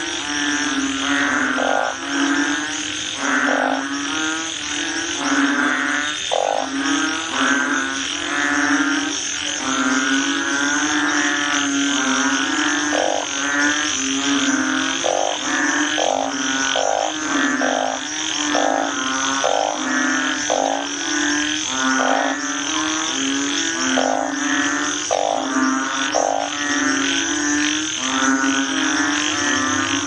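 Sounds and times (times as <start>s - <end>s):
frog croaking: 0.0s - 30.0s.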